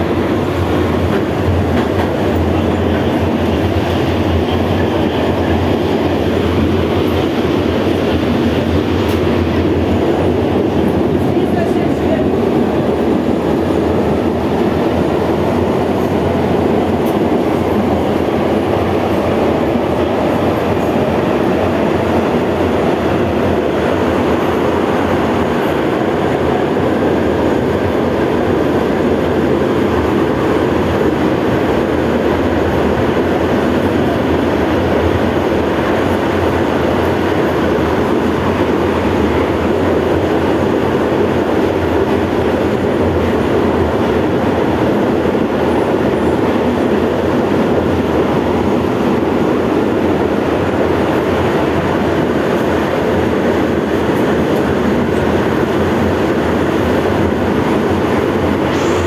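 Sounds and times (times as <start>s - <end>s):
tram wheels rumbling on rail: 0.0s - 59.0s.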